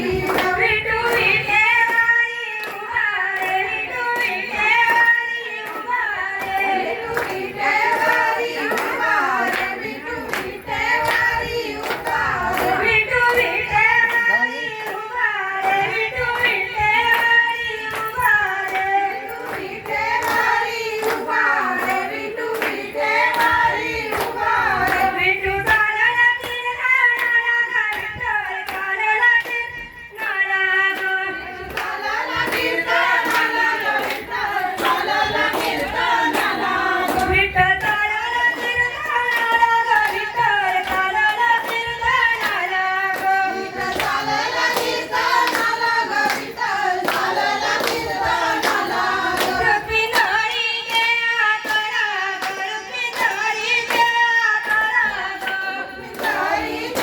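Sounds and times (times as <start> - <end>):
hand claps: 0.0 - 57.0
woman singing devotional song: 0.0 - 57.0.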